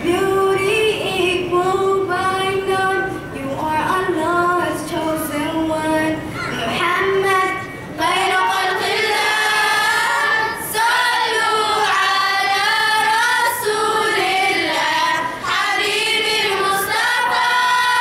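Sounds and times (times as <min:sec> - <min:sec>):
girls singing together: 0:00.0 - 0:18.0.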